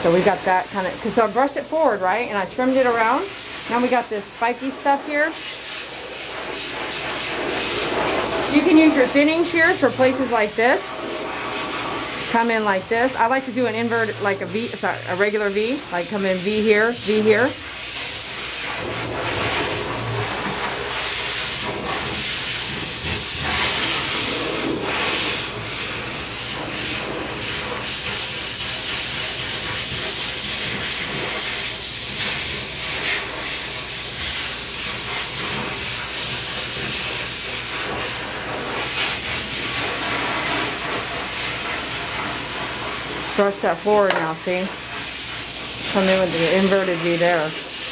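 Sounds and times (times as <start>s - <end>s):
hiss of rushing air: 2.9s - 13.3s, 14.0s - 43.4s.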